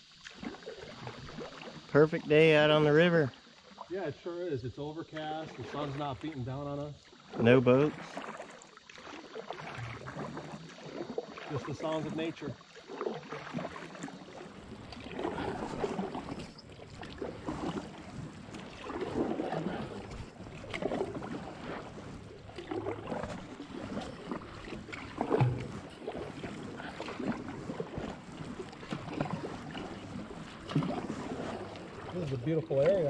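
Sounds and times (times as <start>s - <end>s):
paddles swishing through water: 0.0s - 33.0s.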